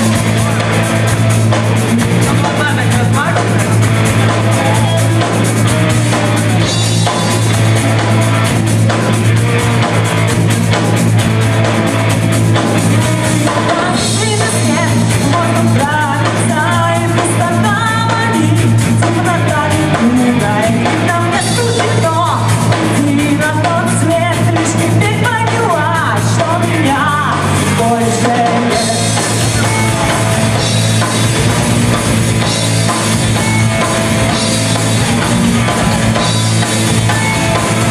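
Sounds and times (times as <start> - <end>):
rock band playing live: 0.0 - 37.9.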